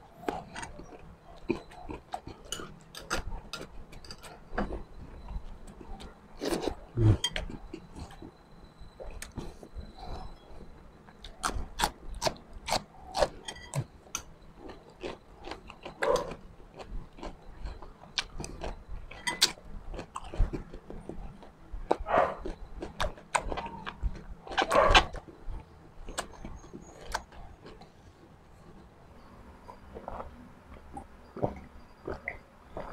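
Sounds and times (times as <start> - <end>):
chewing crunches and mouth clicks: 0.2 - 29.0, 29.6 - 32.9.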